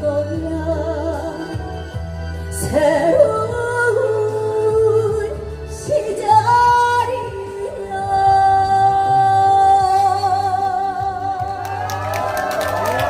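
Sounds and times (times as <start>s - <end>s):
backing track music: 0.0s - 13.0s.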